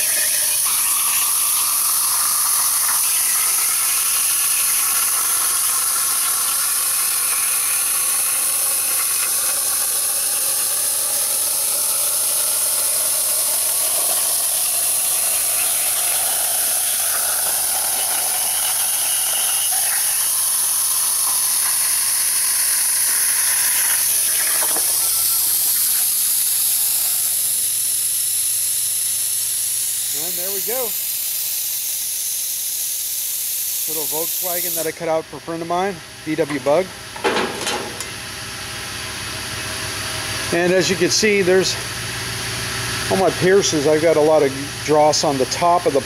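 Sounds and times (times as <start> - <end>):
plasma torch arc hissing: 0.0 - 38.3.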